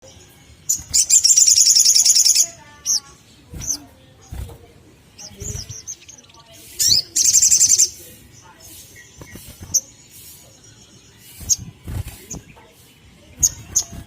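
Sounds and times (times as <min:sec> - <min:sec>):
bird trilling chirps: 0:00.0 - 0:04.5, 0:05.1 - 0:14.0.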